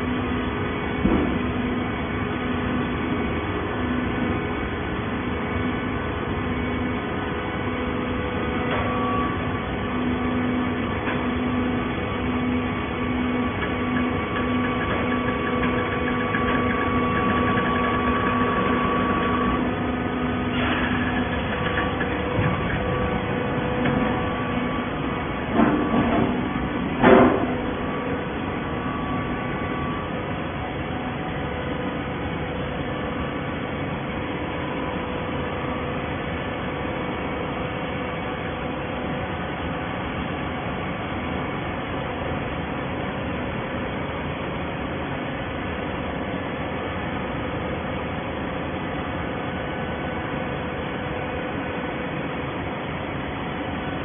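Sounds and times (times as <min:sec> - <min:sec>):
baler machine hum: 0:00.0 - 0:54.0
pump and motor whining: 0:00.0 - 0:54.0.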